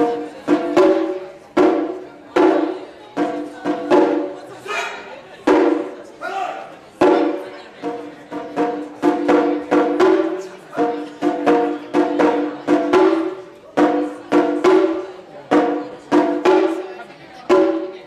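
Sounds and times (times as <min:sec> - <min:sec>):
taiko drums: 0:00.0 - 0:06.1, 0:07.0 - 0:18.0.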